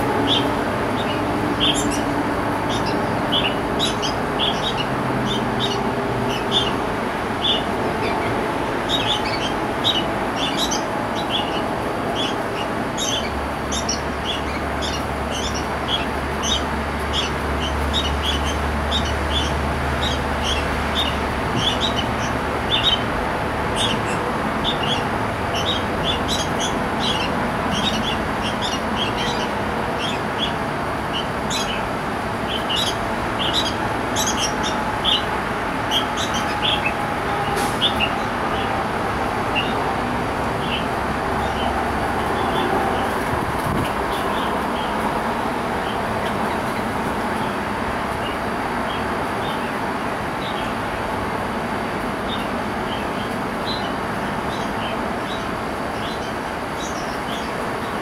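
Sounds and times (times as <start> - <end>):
birds chirping rapidly: 0.0 - 51.0, 52.2 - 58.0.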